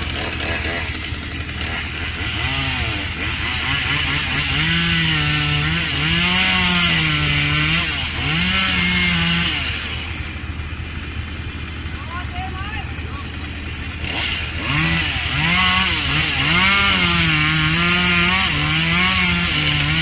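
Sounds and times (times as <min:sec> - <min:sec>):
chainsaw cutting: 0:00.0 - 0:20.0
truck engine humming: 0:00.0 - 0:20.0.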